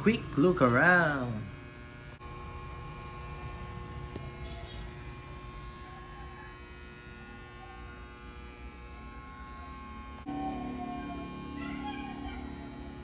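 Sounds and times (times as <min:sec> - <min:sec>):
faint constant tones: 0:00.0 - 0:13.0.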